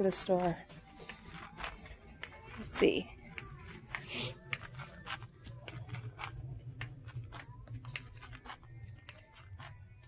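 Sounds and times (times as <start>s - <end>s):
small clicks and taps: 0.0s - 10.0s
store interior hum: 0.0s - 10.0s.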